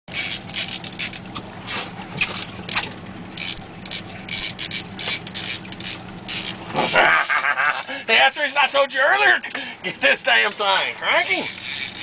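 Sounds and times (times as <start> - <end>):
outboard motor running: 0.1 - 12.0.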